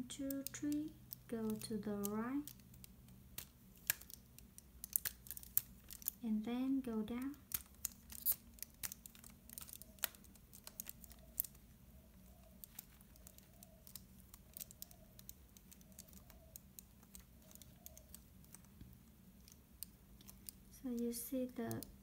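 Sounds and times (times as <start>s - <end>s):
plastic puzzle twisting clicks: 0.1s - 6.2s, 7.4s - 11.6s, 12.2s - 22.0s.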